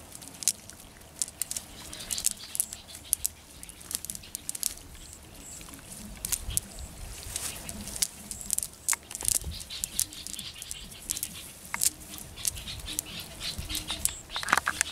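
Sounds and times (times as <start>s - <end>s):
fish flapping on grass and net: 0.0s - 14.9s.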